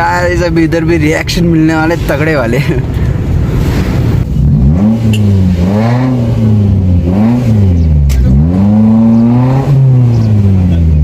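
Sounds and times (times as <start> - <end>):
car engine revving: 0.2 - 11.0.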